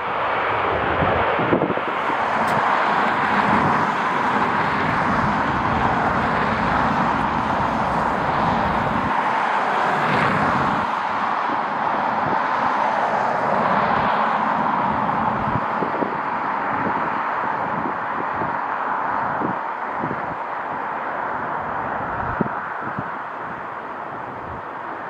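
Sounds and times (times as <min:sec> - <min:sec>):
jet engines rushing: 0:00.0 - 0:25.0
wind buffeting microphone: 0:00.0 - 0:25.0.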